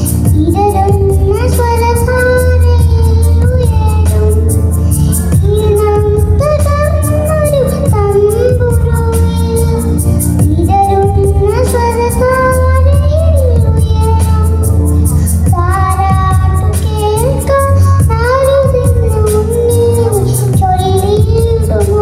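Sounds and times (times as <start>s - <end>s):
girl singing into a microphone: 0.0s - 22.0s
instrumental accompaniment with beat: 0.0s - 22.0s.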